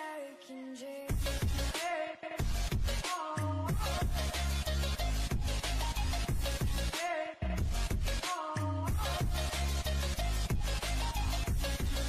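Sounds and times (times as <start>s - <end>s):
electronic music with heavy bass: 1.1s - 12.0s.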